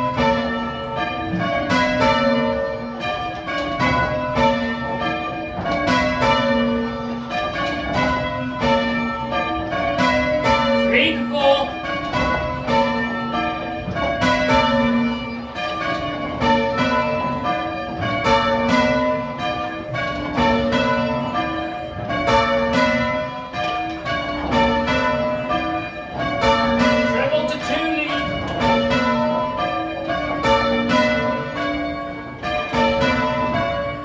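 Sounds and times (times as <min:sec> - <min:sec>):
church bells change ringing: 0:00.0 - 0:34.0.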